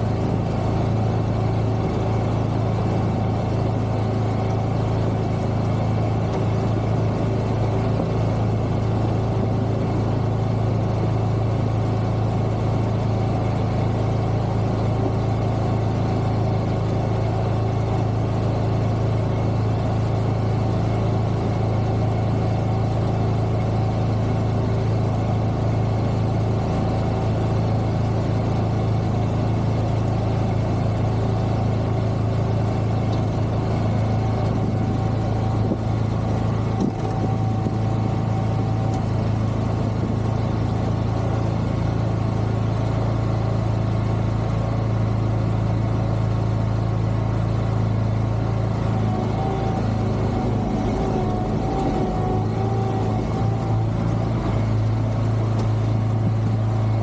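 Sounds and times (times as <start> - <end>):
vehicle engine humming steadily: 0.0 - 57.0.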